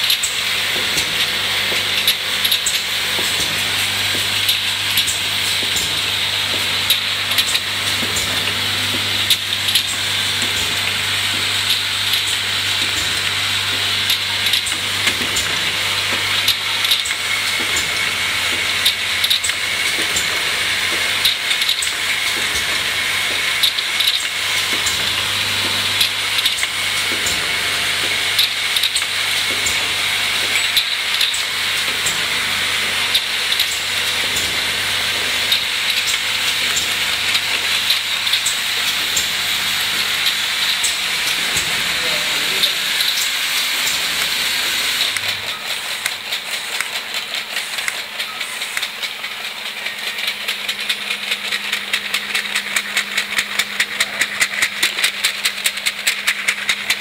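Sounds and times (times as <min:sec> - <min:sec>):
bottles clinking on conveyor: 0:00.0 - 0:57.0
bottling machine hiss and whir: 0:00.0 - 0:57.0.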